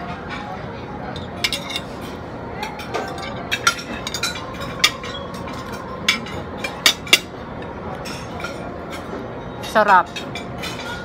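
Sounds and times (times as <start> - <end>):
cutlery clinking on a plate: 0.0 - 11.0.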